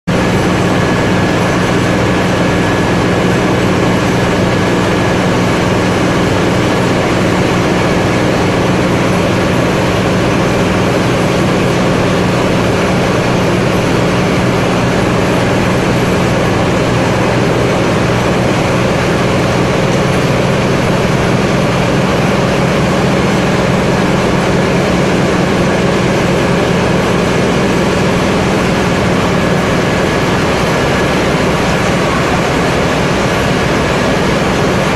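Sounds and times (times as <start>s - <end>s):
mill machinery low drone: 0.1s - 34.9s.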